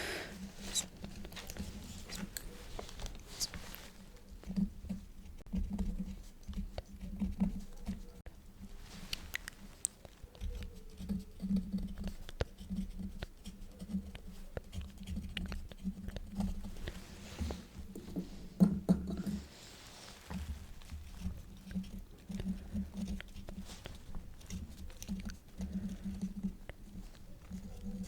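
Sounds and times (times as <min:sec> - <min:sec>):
quill pen scratching paper: 0:00.6 - 0:08.8, 0:10.2 - 0:18.0, 0:20.3 - 0:28.0.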